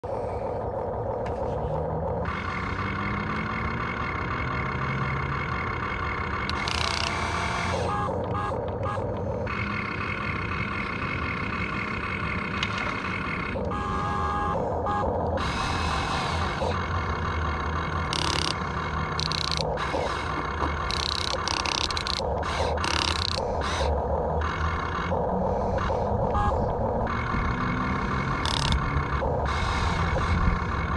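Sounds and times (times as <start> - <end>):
toy vehicle motor humming: 0.1 - 30.9.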